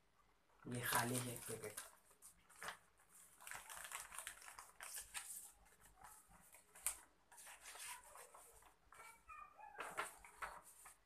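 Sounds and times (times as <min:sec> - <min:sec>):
paper packaging rustling: 0:00.7 - 0:11.0.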